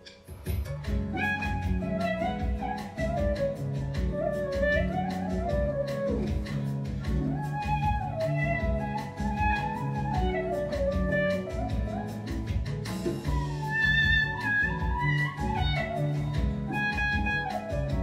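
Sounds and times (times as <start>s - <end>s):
programmed drum beat: 0.0s - 18.0s
sustained bass and chords: 0.5s - 18.0s.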